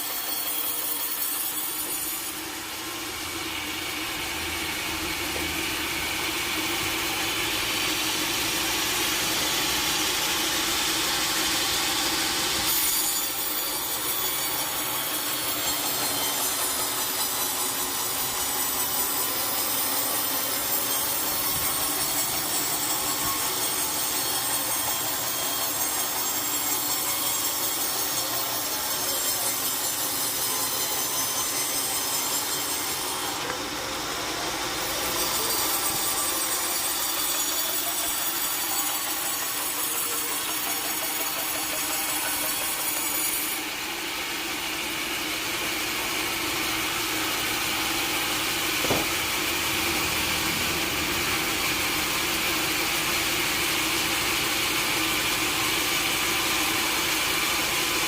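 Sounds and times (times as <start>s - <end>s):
saw cutting through log: 0.0s - 58.0s
sawmill saw whining: 0.0s - 58.0s.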